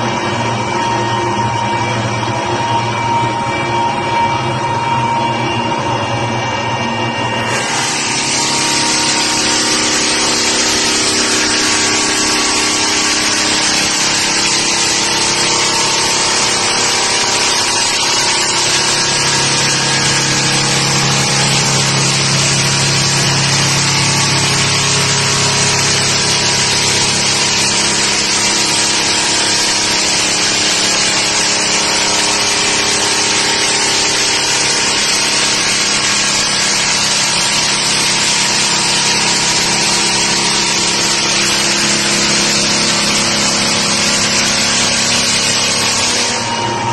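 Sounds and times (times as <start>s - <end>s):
floor sander grinding wood: 0.0s - 46.9s
electric motor hum: 7.4s - 46.9s.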